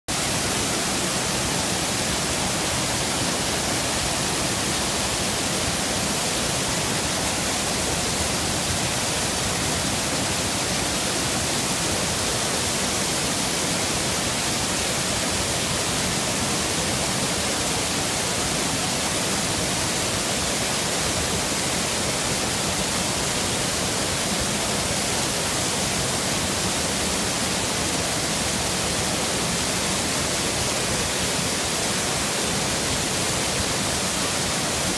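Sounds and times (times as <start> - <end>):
water rushing down cascade: 0.1 - 34.9.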